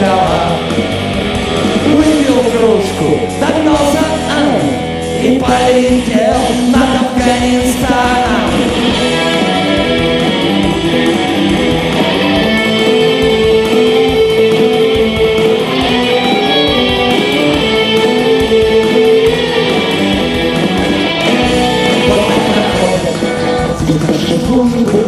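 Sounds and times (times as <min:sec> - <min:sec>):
live band playing guitar music: 0:00.0 - 0:25.0.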